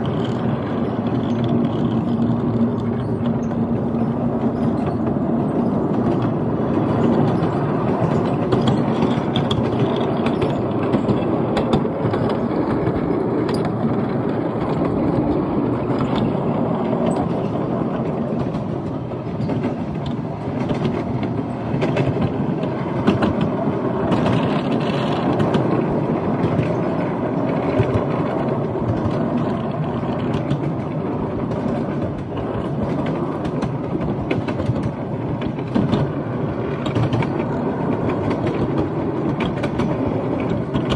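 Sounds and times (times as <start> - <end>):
wheels rumbling on rail: 0.0 - 40.9.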